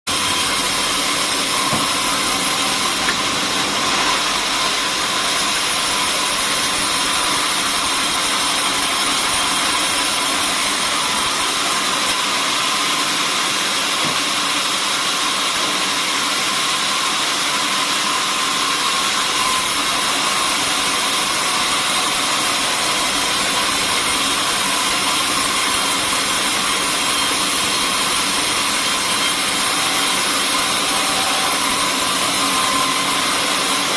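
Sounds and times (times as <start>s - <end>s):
sawmill machinery hissing: 0.1s - 33.9s.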